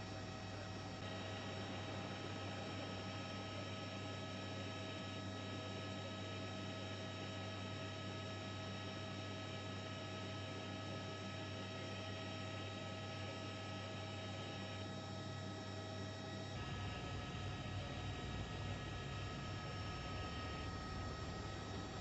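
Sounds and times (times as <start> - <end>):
electrical hum: 0.0 - 22.0
faint whining tones: 0.0 - 22.0.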